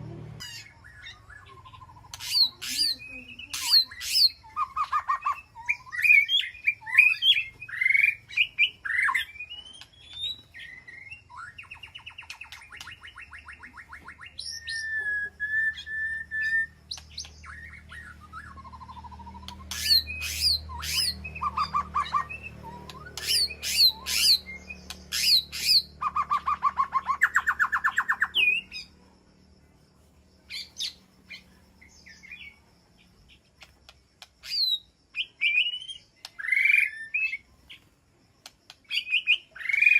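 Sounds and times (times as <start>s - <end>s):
bird singing whistled phrases: 0.4s - 28.9s, 34.4s - 37.5s, 38.8s - 39.9s.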